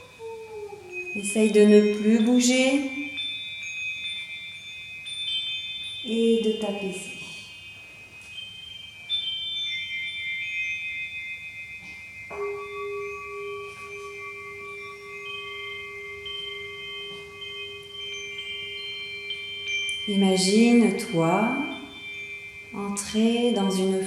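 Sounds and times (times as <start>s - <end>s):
high chimes ringing: 0.0s - 24.0s
low chime note: 0.9s - 24.0s.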